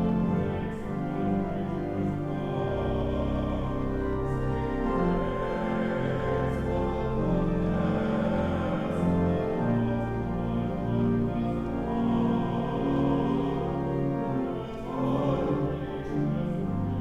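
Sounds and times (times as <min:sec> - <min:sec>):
church organ chords: 0:00.0 - 0:17.0.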